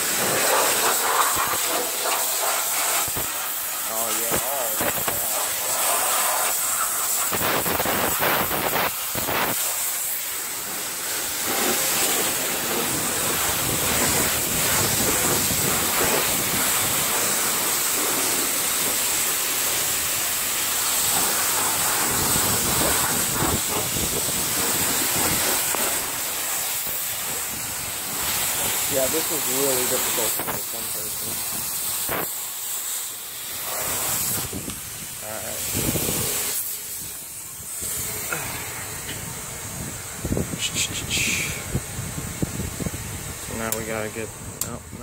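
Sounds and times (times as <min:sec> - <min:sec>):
pressure washer water jet hissing: 0:00.0 - 0:45.0.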